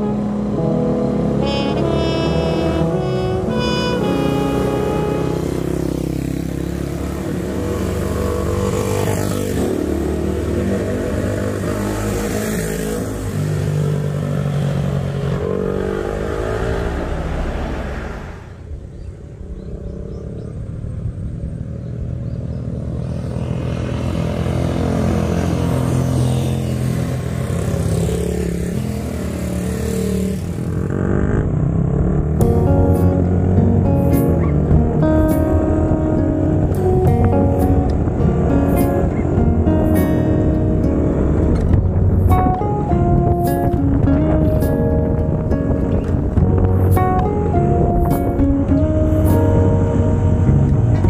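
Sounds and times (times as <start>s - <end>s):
motorcycle engines revving: 0.0s - 51.0s.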